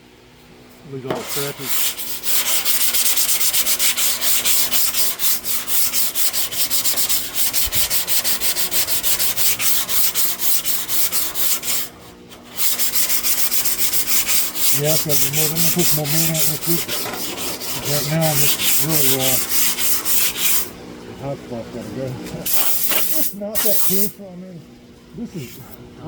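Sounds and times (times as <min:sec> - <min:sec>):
sandpaper rubbing on filler: 0:01.1 - 0:20.7, 0:22.5 - 0:24.2.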